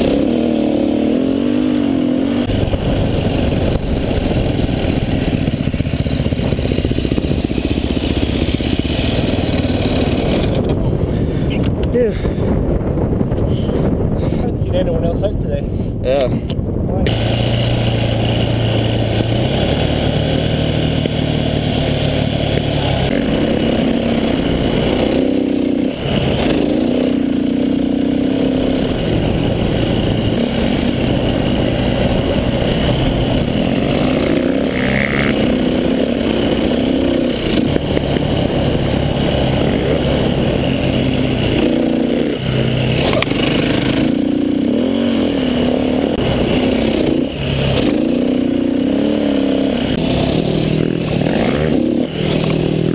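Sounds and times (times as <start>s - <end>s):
dirt bike engine revving: 0.0s - 12.2s, 17.1s - 52.9s.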